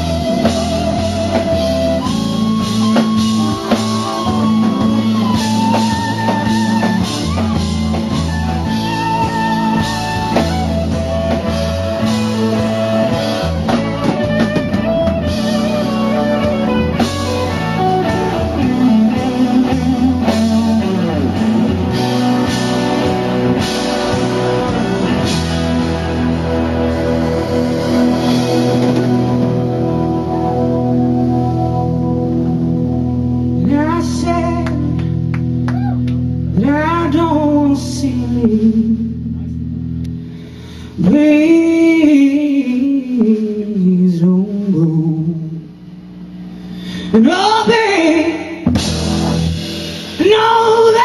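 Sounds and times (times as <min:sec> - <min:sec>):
slow blues instrumental: 0:00.0 - 0:51.0.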